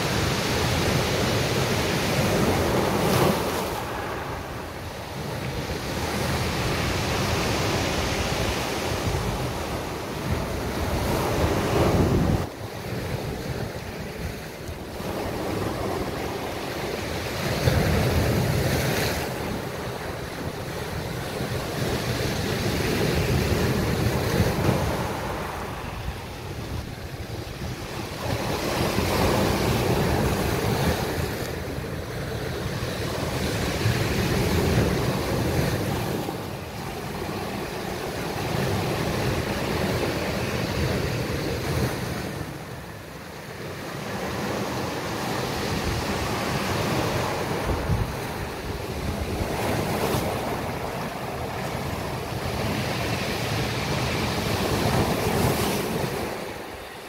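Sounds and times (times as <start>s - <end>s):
wind buffeting microphone: 0.0s - 42.8s, 44.2s - 56.9s.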